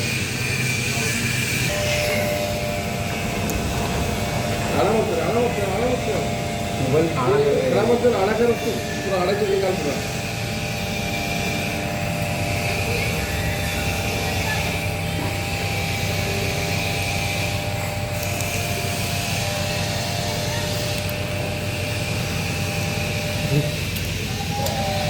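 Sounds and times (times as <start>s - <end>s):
machine motor humming: 0.0s - 25.0s.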